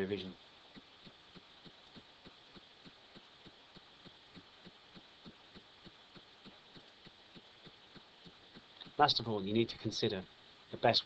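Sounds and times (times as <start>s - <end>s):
soft regular ticking: 0.0s - 11.0s.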